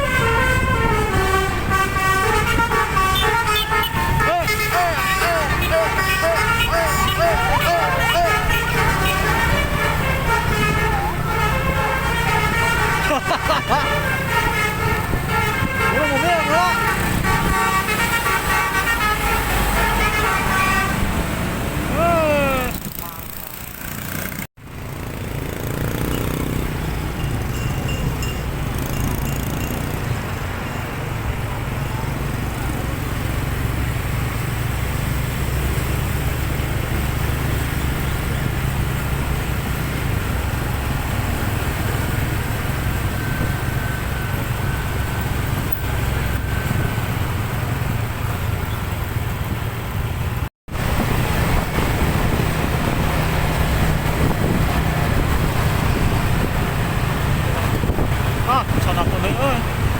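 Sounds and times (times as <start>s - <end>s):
road and wind noise: 0.0s - 59.9s
vehicle engine rumble: 0.0s - 59.9s.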